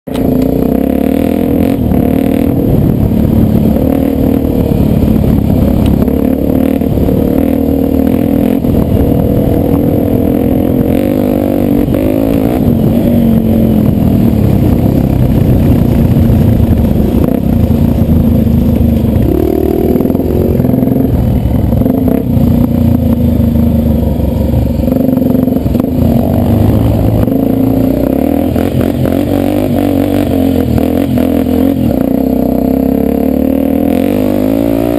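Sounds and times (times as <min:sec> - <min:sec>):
motorbike engine revving: 0:00.1 - 0:34.9.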